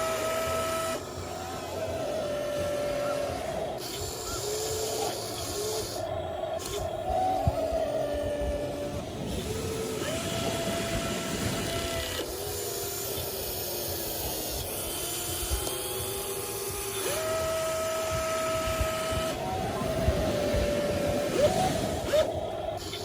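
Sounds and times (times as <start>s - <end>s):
small electric motors whining: 0.0s - 23.0s
steady hiss: 0.0s - 23.0s.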